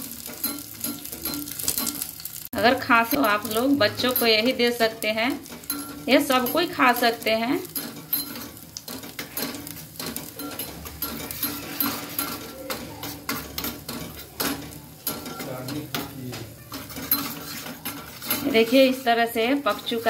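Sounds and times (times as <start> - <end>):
faint sizzle of cooking: 0.0 - 20.0
spoon stirring and scraping in pan: 0.0 - 20.0.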